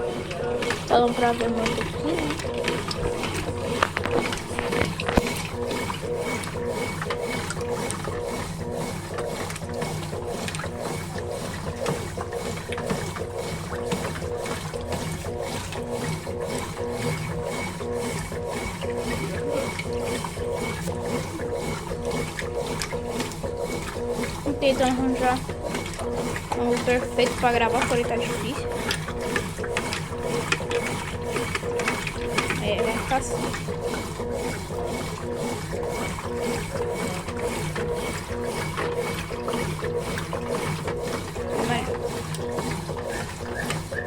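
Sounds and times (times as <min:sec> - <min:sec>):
motor hum: 0:00.0 - 0:44.0
washing machine churning: 0:00.0 - 0:44.0.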